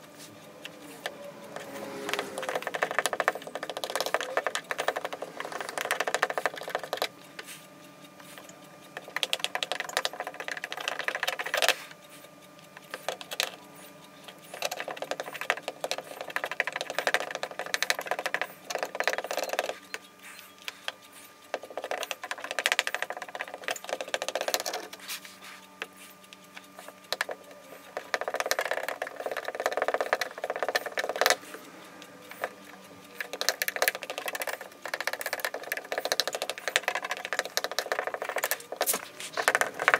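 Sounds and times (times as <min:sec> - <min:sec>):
faint steady hum: 0:00.0 - 0:39.9
hot iron tip scraping plastic: 0:00.0 - 0:39.9.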